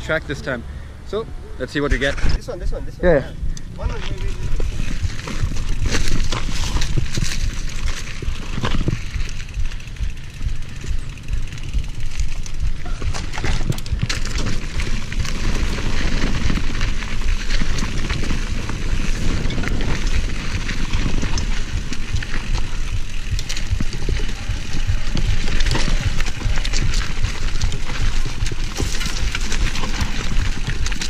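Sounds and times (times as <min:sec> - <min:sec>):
low rumble: 0:02.8 - 0:31.0
bike rattling over bumps: 0:03.4 - 0:31.0
tyres crunching over dirt: 0:03.8 - 0:31.0.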